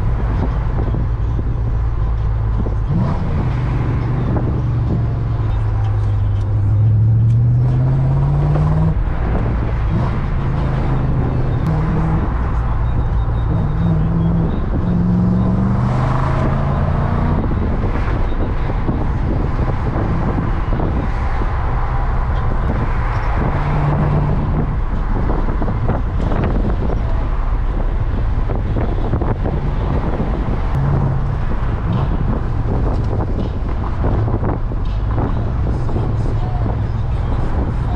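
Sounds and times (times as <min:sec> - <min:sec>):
car engine accelerating: 0:00.0 - 0:37.9
road and tyre noise: 0:00.0 - 0:37.9.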